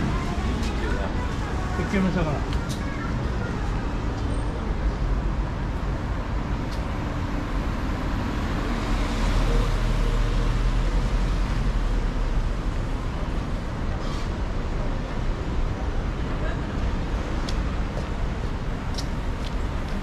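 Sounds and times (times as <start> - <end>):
low rumble of traffic: 0.0 - 20.0.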